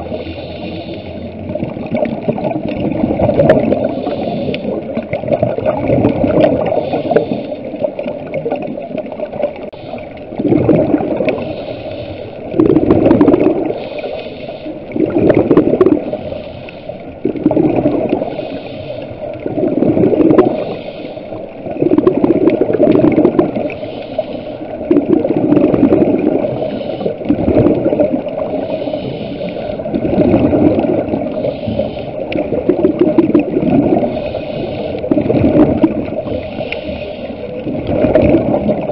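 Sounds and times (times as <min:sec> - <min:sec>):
exhaled bubbles gurgling: 0:00.0 - 0:38.9.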